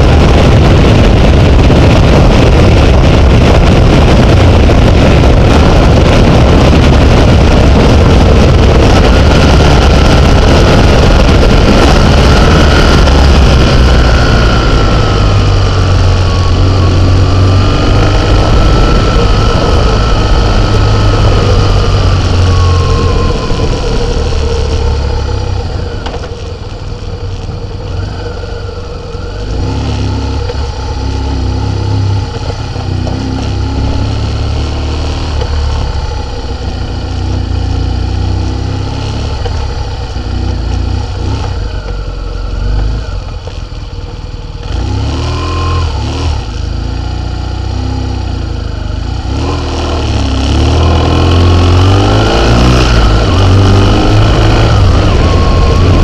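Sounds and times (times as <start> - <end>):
vehicle engine running: 0.0 - 56.0
wind and road noise rumble: 0.0 - 56.0.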